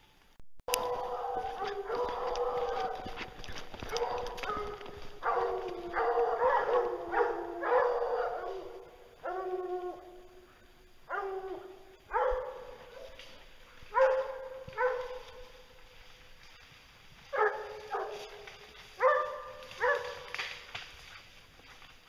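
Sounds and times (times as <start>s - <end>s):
hounds baying: 0.7s - 15.7s, 17.3s - 20.4s.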